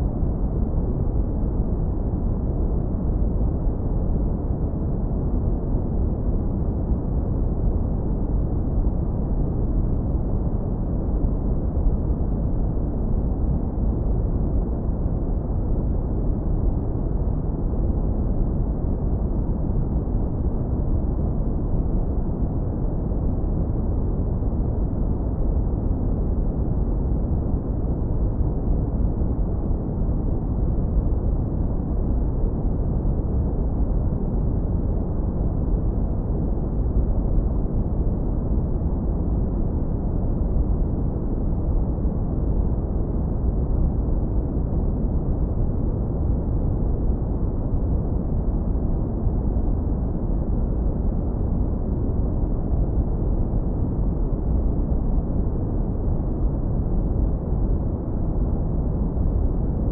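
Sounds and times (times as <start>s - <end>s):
deep brown noise rumble: 0.0s - 59.9s.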